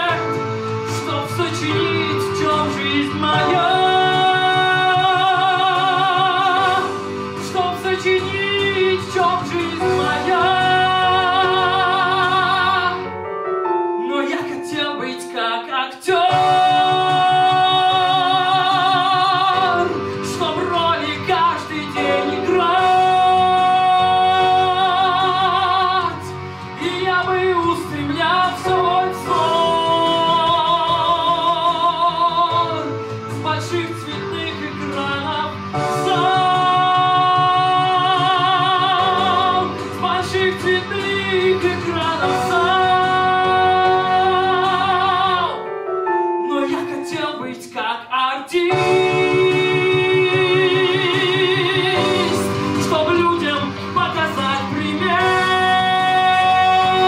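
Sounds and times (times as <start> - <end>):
instrumental accompaniment: 0.0 - 57.0
man singing with vibrato: 0.0 - 57.0.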